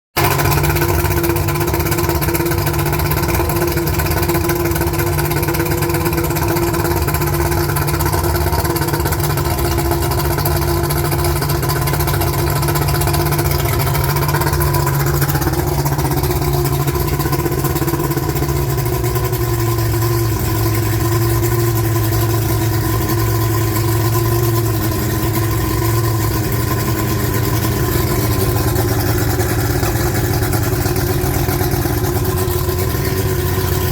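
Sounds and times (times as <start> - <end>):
outboard motor running: 0.1 - 33.9.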